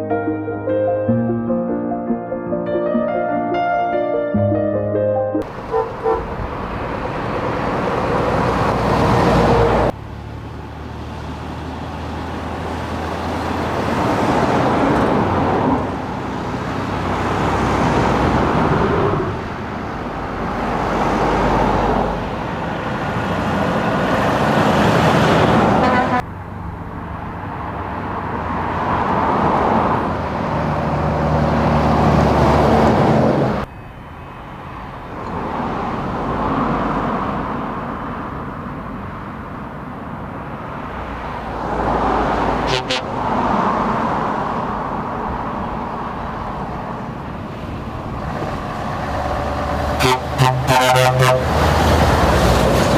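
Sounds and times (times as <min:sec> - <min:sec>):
diesel trucks driving past: 0:05.4 - 0:52.9.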